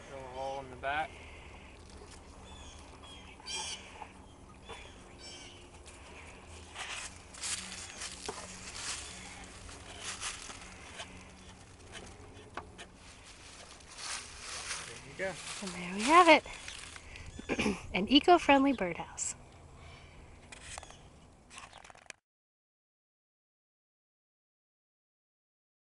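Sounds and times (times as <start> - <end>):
faint steady hum: 0.0 - 21.6
small birds chirping: 0.0 - 22.0.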